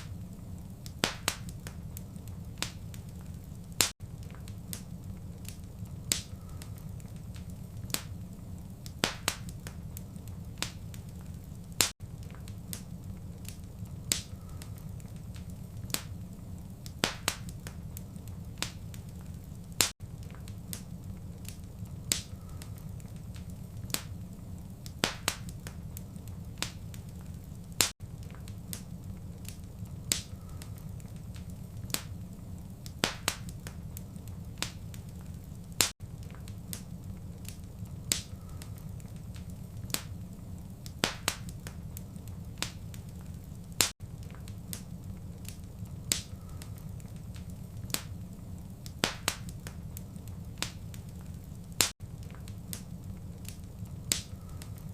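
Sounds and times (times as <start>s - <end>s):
low fire rumble: 0.0s - 54.9s
wood fire popping and snapping: 0.0s - 54.9s.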